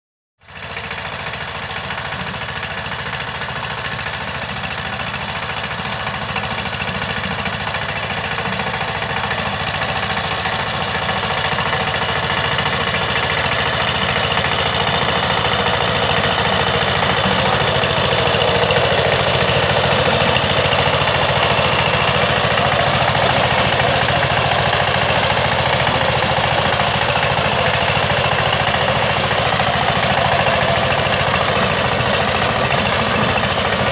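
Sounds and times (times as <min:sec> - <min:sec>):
diesel engine knocking: 0:00.4 - 0:33.9.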